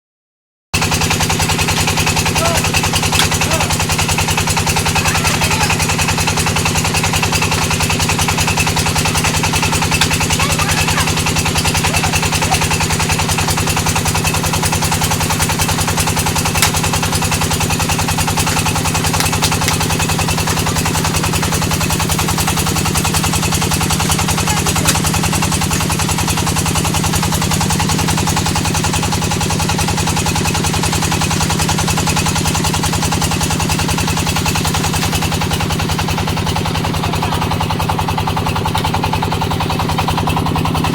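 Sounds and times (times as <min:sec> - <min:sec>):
brick-moulding machine rattling: 0:00.8 - 0:40.9.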